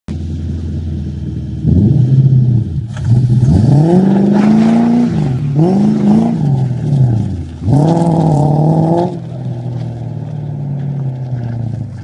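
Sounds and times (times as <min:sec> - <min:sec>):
car engine revving and idling: 0:00.1 - 0:12.0.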